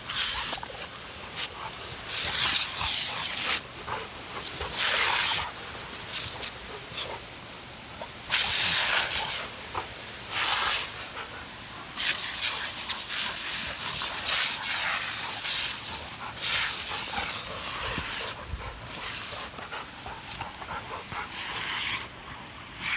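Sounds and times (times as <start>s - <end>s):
short bursts of hissing: 0.0s - 3.8s, 4.4s - 7.3s, 8.2s - 20.6s, 21.2s - 22.9s.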